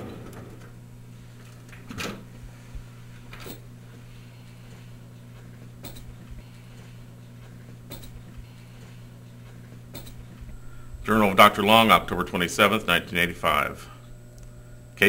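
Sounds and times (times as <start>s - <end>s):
low room tone hum: 0.0s - 15.0s.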